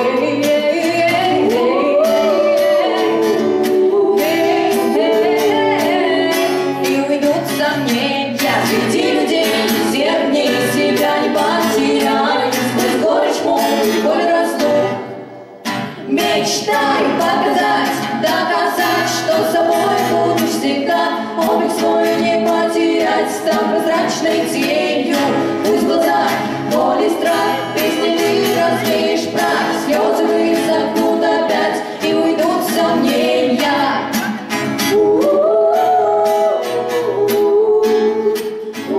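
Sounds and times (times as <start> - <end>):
acoustic guitar: 0.0 - 38.9
women singing in harmony: 0.0 - 38.9.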